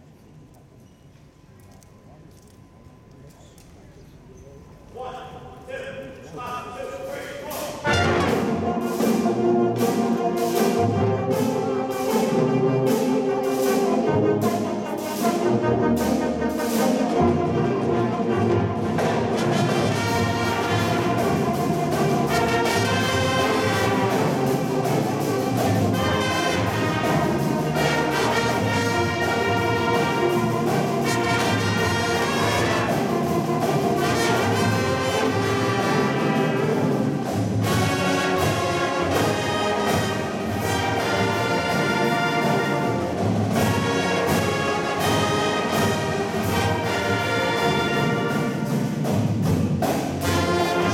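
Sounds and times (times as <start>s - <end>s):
marching band playing: 5.0s - 50.9s
brass playing full chords: 7.5s - 49.1s, 50.2s - 50.9s.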